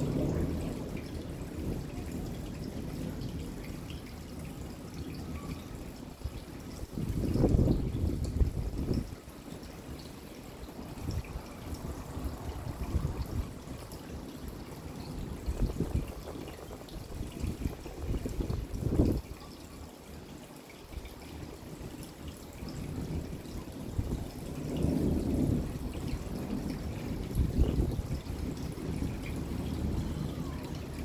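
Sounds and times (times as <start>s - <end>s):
rain falling: 0.0s - 31.0s
water trickling and dripping: 0.0s - 31.0s.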